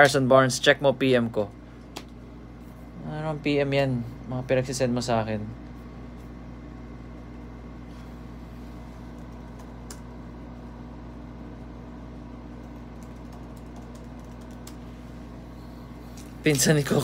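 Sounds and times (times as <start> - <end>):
low hum of machinery: 0.0 - 17.0.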